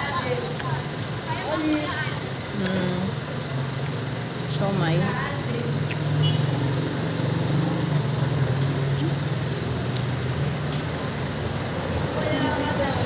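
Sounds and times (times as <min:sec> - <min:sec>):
motor vehicle engine hum: 0:00.0 - 0:13.0
street noise: 0:00.0 - 0:13.0.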